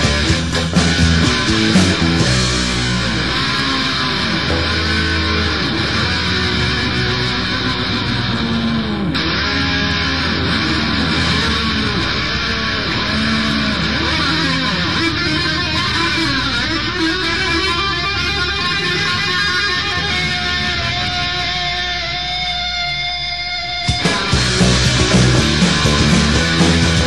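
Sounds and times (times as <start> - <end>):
electric guitar gliding notes: 0.0 - 27.0
punk rock song: 0.0 - 27.0.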